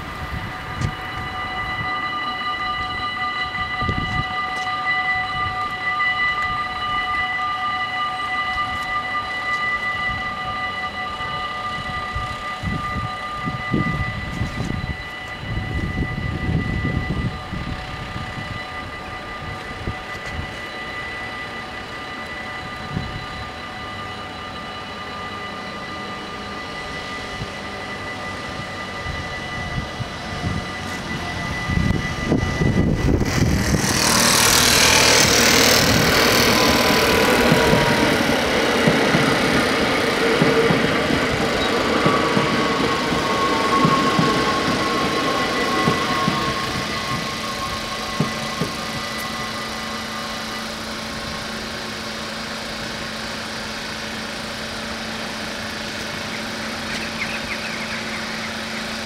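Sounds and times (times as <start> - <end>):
electric train passing: 0.0 - 59.0
level-crossing bells ringing: 0.0 - 59.0.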